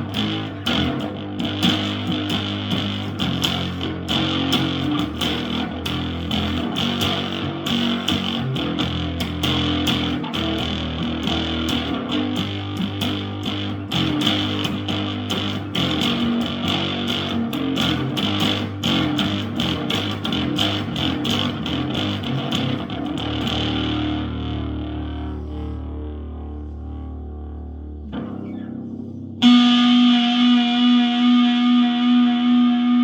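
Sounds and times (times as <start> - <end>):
electric bass guitar noise: 0.0 - 33.0.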